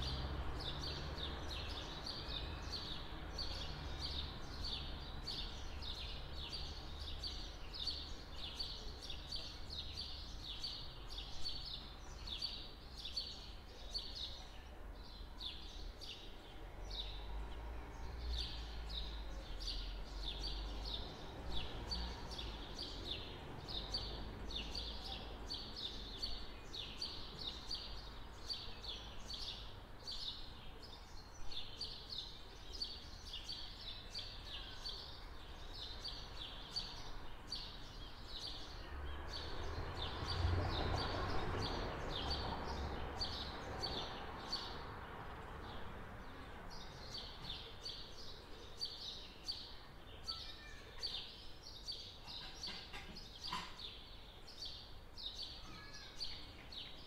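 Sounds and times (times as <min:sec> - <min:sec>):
background noise: 0:00.0 - 0:57.0
small songbirds chirping: 0:00.0 - 0:57.0.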